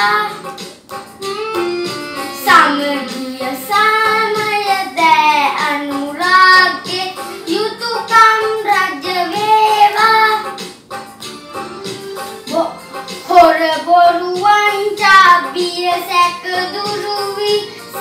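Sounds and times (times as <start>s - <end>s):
boy singing: 0.0s - 0.5s, 1.3s - 10.5s, 12.5s - 18.0s
instrumental accompaniment: 0.0s - 18.0s.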